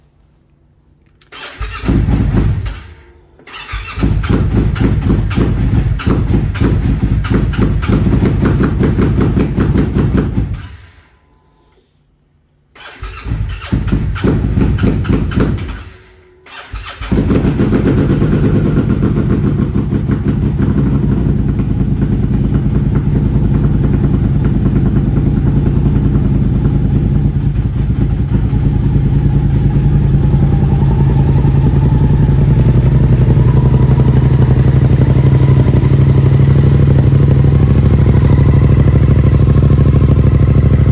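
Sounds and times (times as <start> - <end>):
motorcycle engine starting and idling: 1.2 - 11.8, 12.7 - 40.9.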